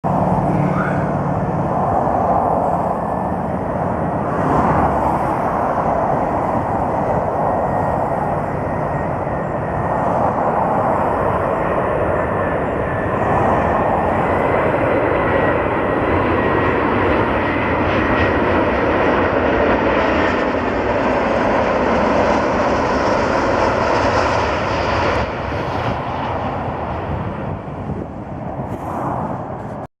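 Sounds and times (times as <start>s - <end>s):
jet engine noise: 0.0s - 29.9s.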